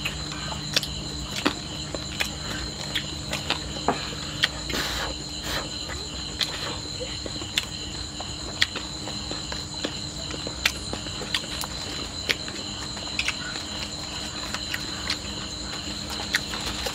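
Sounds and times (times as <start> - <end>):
crickets trilling: 0.0 - 16.9.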